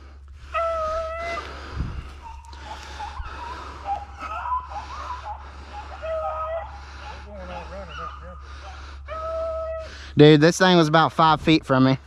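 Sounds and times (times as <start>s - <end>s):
beagles baying: 0.4s - 10.1s.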